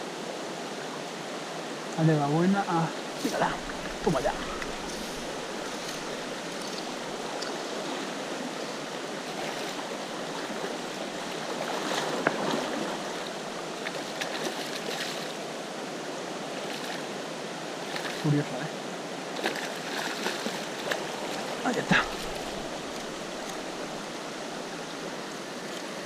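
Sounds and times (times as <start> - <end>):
river water rushing over stones: 0.0 - 26.0.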